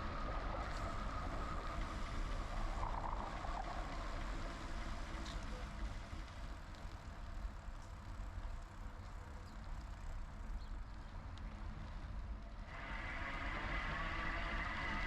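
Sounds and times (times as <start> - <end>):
bicycle rolling rumble: 0.0 - 15.0.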